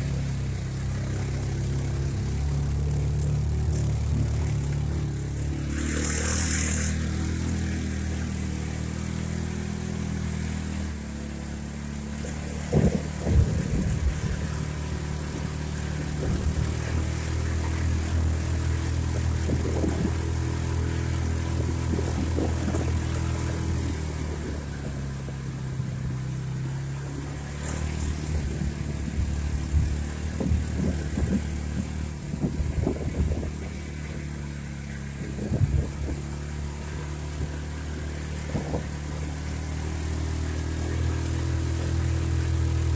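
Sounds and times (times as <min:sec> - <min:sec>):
off-road vehicle engine running: 0:00.0 - 0:42.9.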